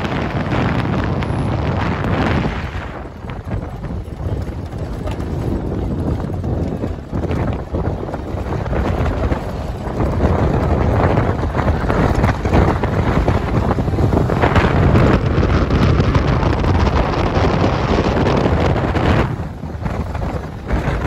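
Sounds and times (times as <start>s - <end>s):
vehicle driving on dirt road: 0.0s - 21.0s
wind buffeting microphone: 0.0s - 21.0s.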